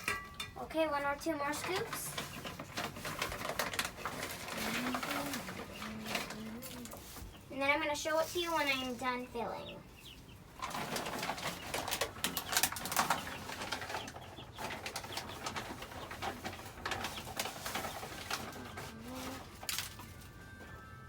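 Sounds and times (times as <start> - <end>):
grain feed rattling: 0.0 - 9.3, 10.5 - 20.4
chicks calling: 0.9 - 19.4.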